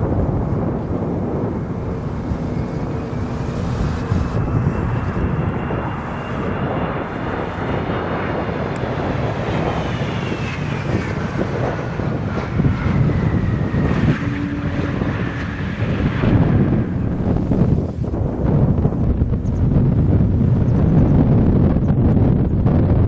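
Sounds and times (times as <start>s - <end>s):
jet engine whine: 0.0s - 23.0s
wind buffeting microphone: 0.0s - 23.0s.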